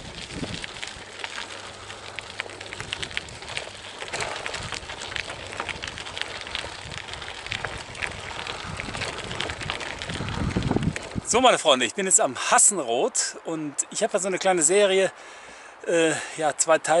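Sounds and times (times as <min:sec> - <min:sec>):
crunching on stony track: 0:00.0 - 0:15.1.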